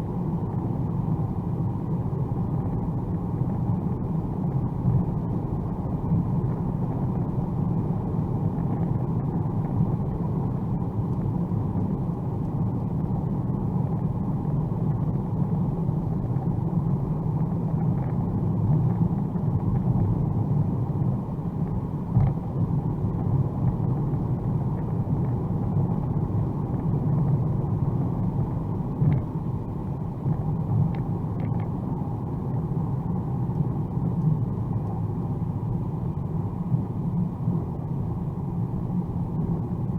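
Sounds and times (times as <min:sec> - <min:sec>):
road and tyre noise inside car: 0:00.0 - 0:39.9.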